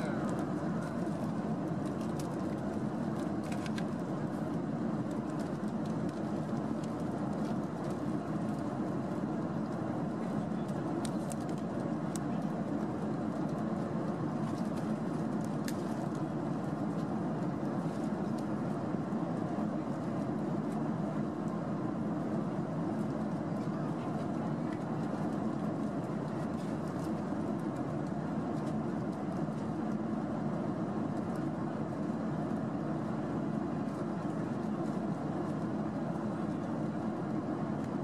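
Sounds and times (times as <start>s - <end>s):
airplane cabin noise: 0.0s - 38.0s.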